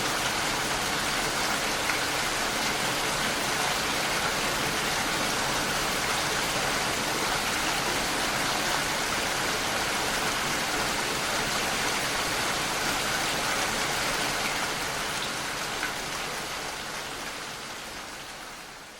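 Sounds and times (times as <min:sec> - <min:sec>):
steady rain falling: 0:00.0 - 0:18.9.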